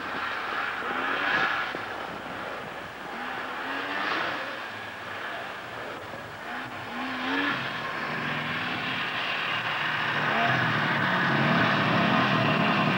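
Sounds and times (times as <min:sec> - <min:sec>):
snowmobile approaching: 0:00.0 - 0:12.9
snowmobile engines revving: 0:00.0 - 0:12.9.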